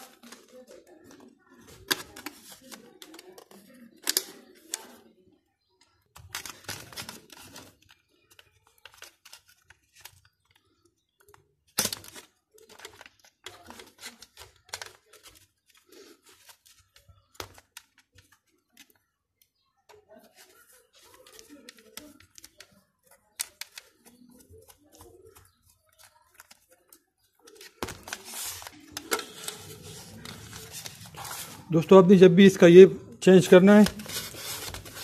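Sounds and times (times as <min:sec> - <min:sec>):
hands clicking and rustling plastic: 0:00.0 - 0:05.0, 0:05.8 - 0:35.0.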